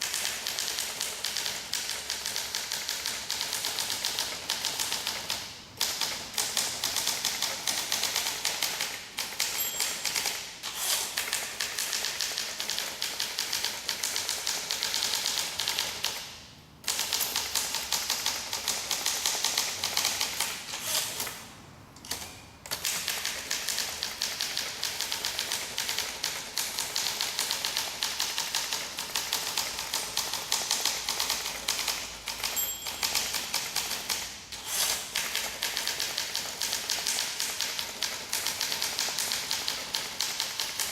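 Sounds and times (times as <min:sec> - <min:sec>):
manual typewriter typing: 0:00.0 - 0:21.4, 0:22.0 - 0:40.9.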